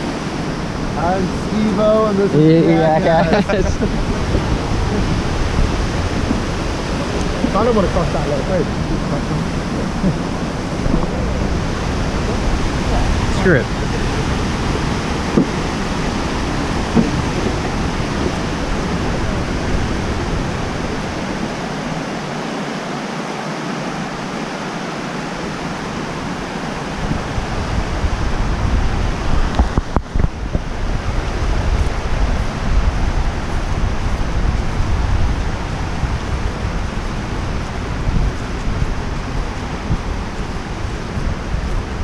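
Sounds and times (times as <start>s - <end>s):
waterfall rushing: 0.0s - 42.0s
wind buffeting microphone: 0.0s - 42.0s.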